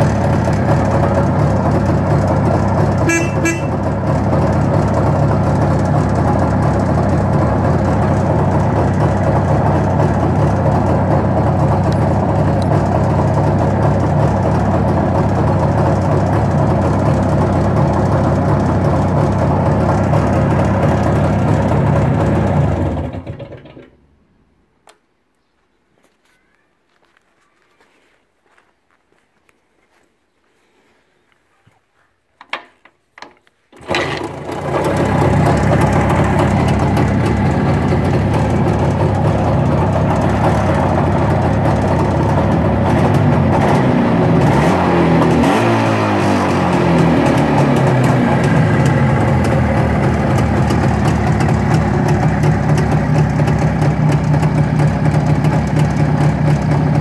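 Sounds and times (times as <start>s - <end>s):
motorcycle engine starting and idling: 0.0s - 25.0s, 32.4s - 57.0s.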